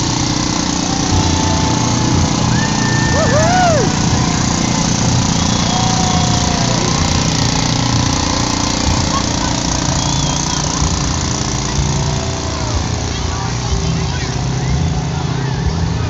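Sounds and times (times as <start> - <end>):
engine running with low drone: 0.0 - 16.0
voices calling out: 0.0 - 16.0.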